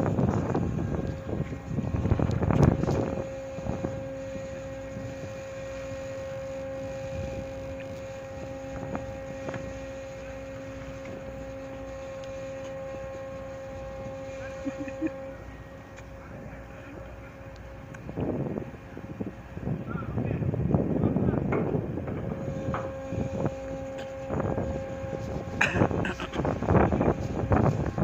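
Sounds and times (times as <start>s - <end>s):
ship machinery hum: 0.0s - 28.0s
wind buffeting microphone: 0.0s - 28.0s.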